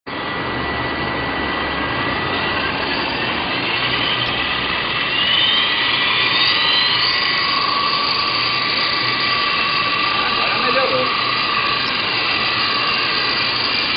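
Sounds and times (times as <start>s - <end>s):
electric helicopter motors whining: 0.1s - 13.9s.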